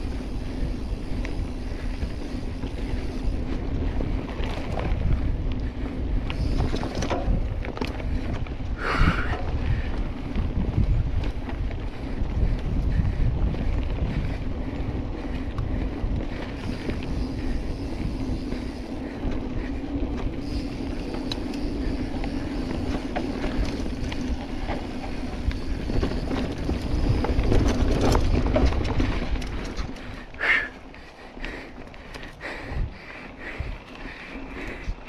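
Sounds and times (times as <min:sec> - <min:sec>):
tyres rumbling on dirt: 0:00.0 - 0:30.7
bike clicks and rattles: 0:00.0 - 0:35.0
wind buffeting microphone: 0:00.0 - 0:35.0.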